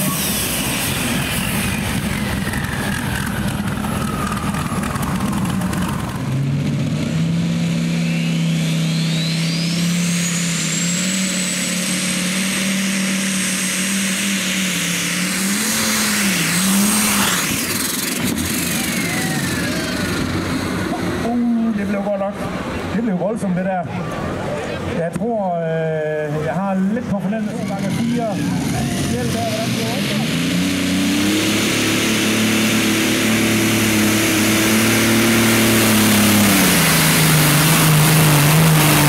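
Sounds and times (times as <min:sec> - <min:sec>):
tractor engine running hard: 0:00.0 - 0:23.1, 0:25.7 - 0:39.0
tractor engine high whine: 0:00.0 - 0:39.0.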